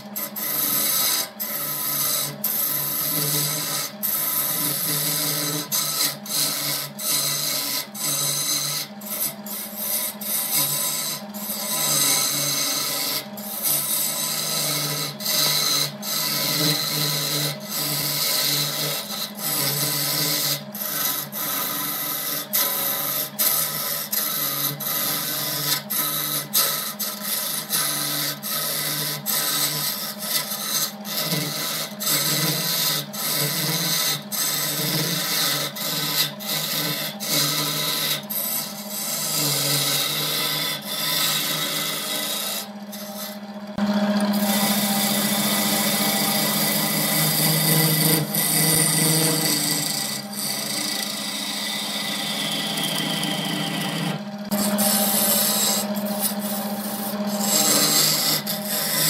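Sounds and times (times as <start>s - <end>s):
chisel scraping spinning wood: 0.0s - 59.0s
wood lathe motor humming: 0.0s - 59.0s.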